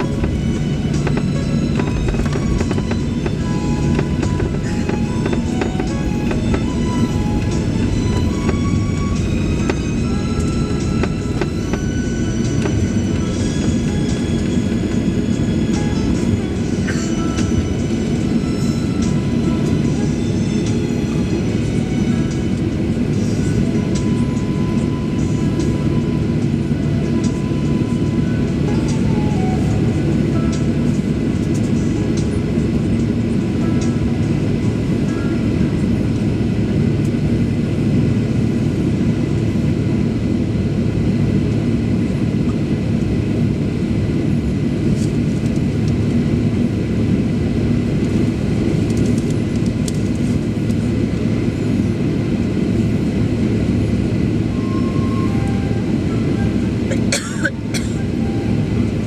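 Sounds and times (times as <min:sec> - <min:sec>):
airplane cabin hum: 0:00.0 - 0:59.0.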